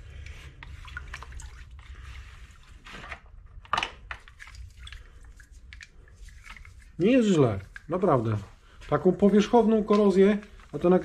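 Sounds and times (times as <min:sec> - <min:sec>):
water dripping and splashing: 0:00.0 - 0:02.8, 0:04.0 - 0:11.0.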